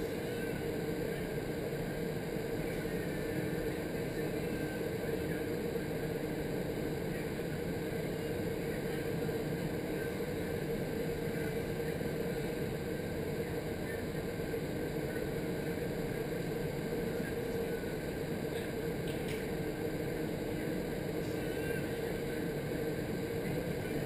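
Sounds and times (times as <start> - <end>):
airflow rushing through wind tunnel: 0.0 - 24.0
constant hum: 0.0 - 24.0.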